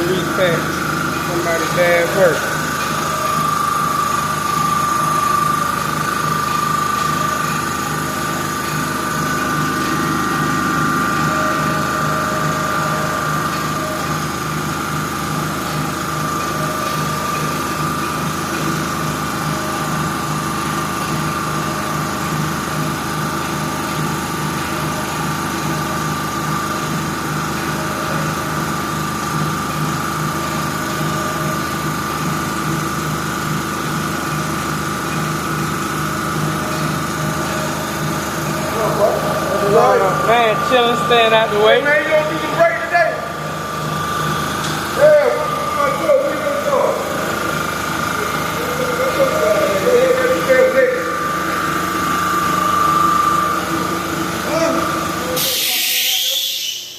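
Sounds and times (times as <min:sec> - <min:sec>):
machine whining and humming: 0:00.0 - 0:56.9.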